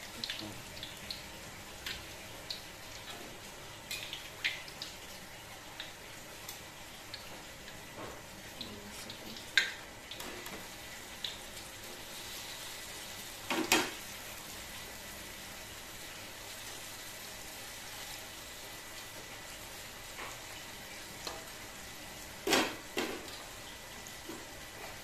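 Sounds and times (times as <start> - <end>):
hot oil sizzling in a wok: 0.0 - 25.0.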